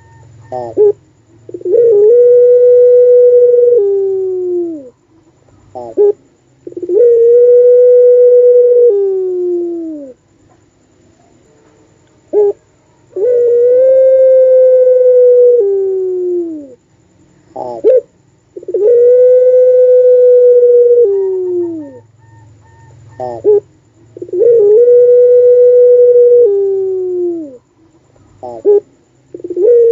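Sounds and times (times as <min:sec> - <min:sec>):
dove cooing: 0:00.0 - 0:10.2, 0:12.3 - 0:16.8, 0:17.5 - 0:29.9.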